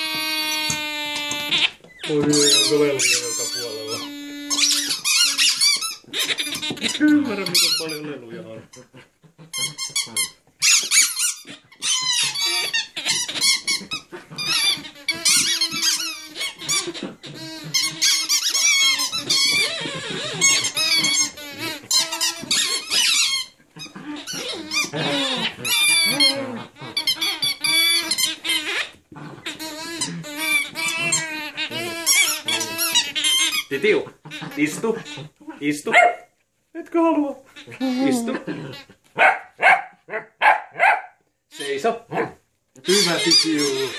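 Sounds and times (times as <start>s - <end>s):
dog toys squeaking: 0.0s - 36.3s, 37.4s - 43.9s.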